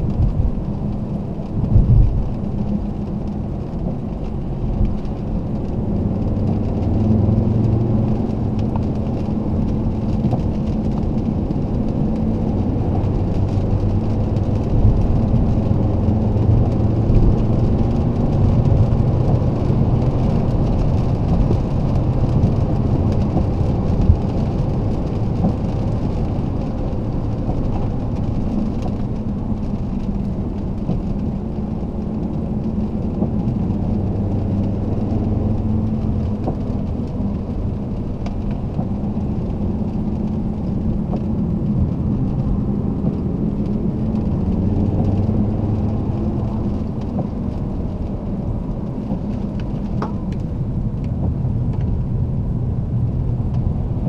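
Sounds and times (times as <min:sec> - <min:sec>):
car engine drone: 0:00.0 - 0:54.0
tyre and road rumble: 0:00.0 - 0:54.0.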